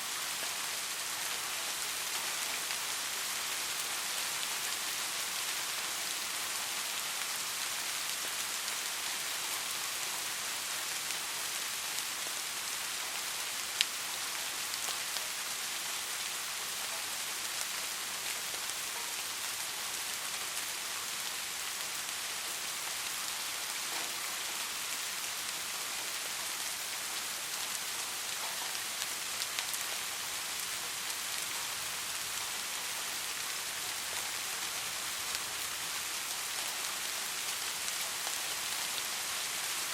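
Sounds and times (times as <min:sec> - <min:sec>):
soft rain hiss: 0:00.0 - 0:39.9.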